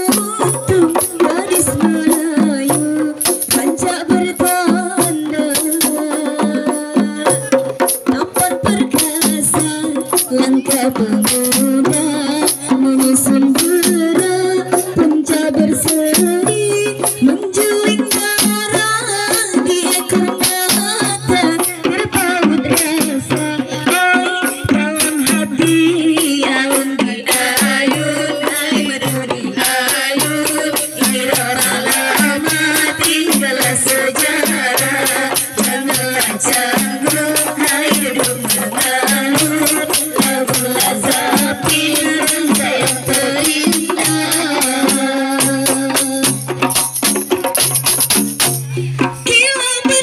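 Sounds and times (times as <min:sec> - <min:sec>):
voices singing through microphone: 0:00.0 - 0:47.3
frame drums beaten in rhythm: 0:00.0 - 0:50.0.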